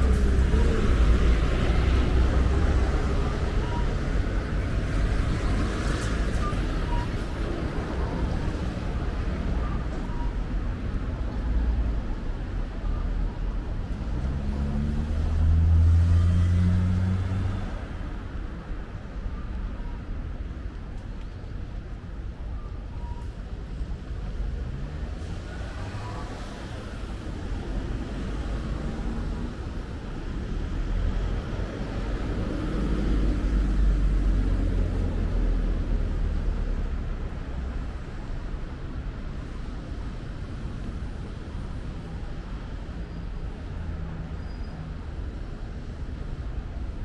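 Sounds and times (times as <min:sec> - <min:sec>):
passing cars rumble: 0:00.0 - 0:12.8, 0:13.7 - 0:18.8, 0:23.5 - 0:45.2.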